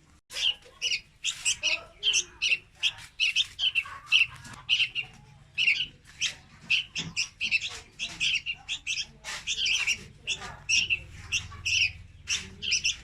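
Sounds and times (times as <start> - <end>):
young birds chirping: 0.0 - 13.0.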